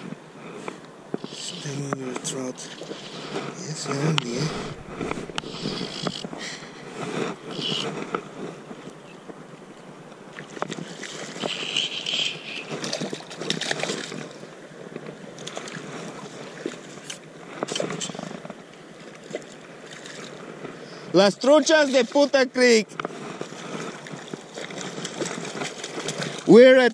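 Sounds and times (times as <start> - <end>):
creek water rushing: 1.0 - 8.1, 9.9 - 26.9.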